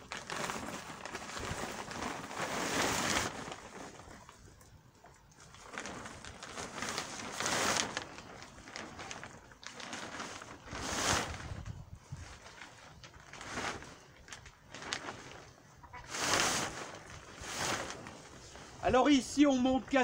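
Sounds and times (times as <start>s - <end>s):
plastic sheeting rustling and dragging: 0.0s - 20.0s.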